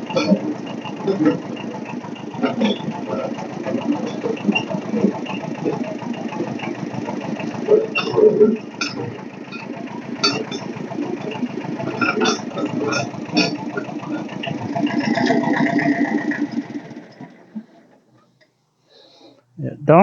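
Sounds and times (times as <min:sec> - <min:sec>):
high whine: 0:00.0 - 0:18.1
diesel engine chugging: 0:00.0 - 0:18.4.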